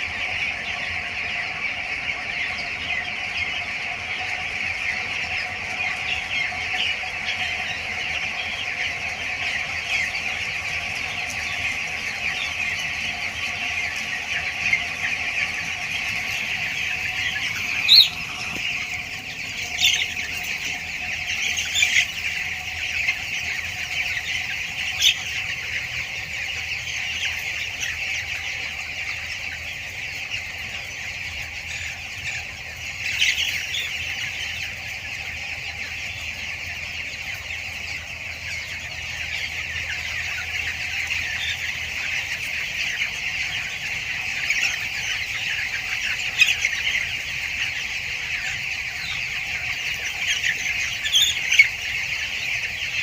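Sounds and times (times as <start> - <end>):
chicken squawks: 0.0 - 53.0
chicks peeping and chirping: 0.0 - 53.0.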